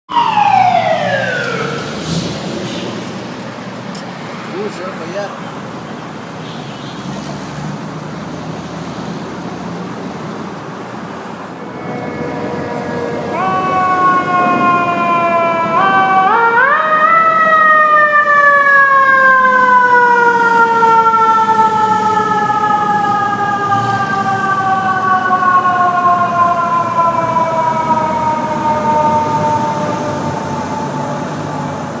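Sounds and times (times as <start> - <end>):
fire truck siren wailing: 0.1 - 32.0.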